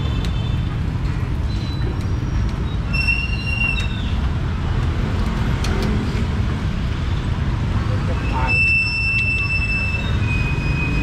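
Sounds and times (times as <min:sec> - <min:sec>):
low street noise rumble: 0:00.0 - 0:11.0.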